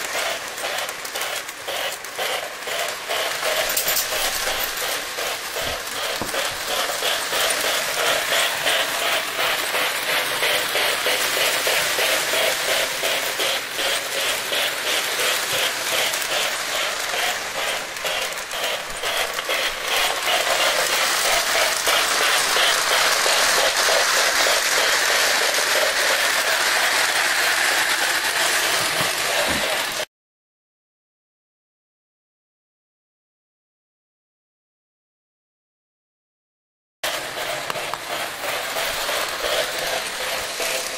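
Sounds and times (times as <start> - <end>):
model train rolling and clattering: 0.0 - 30.0, 37.1 - 40.9.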